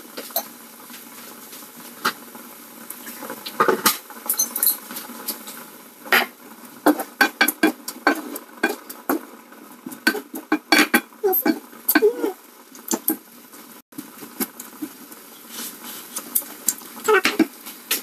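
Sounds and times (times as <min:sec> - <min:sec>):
wooden spoon scraping wok: 0:00.0 - 0:13.3, 0:14.0 - 0:18.0
steady hiss: 0:00.0 - 0:18.0.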